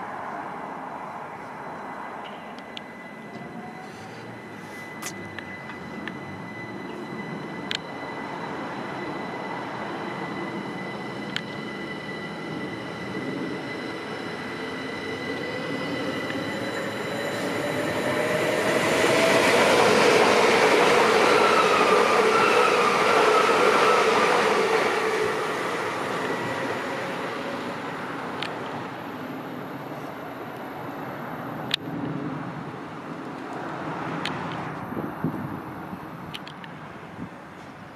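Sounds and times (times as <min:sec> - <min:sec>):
electric train passing: 0:00.0 - 0:37.9
wheel and rail noise: 0:00.0 - 0:37.9.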